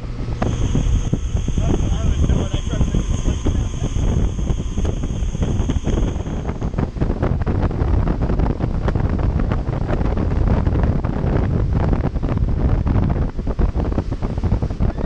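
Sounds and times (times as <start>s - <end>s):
boat rushing and churning wake: 0.0s - 15.0s
wind buffeting microphone: 0.0s - 15.0s.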